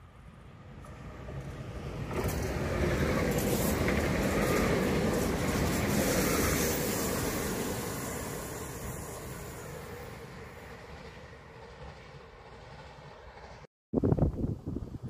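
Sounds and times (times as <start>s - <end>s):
electric train passing on rails: 0.0s - 13.7s.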